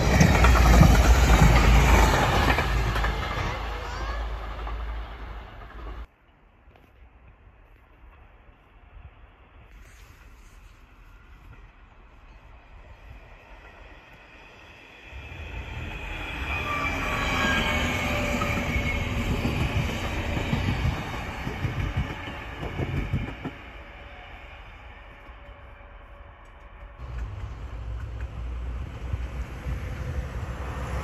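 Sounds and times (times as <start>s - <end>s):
train rumble and wheel clatter: 0.0s - 31.0s.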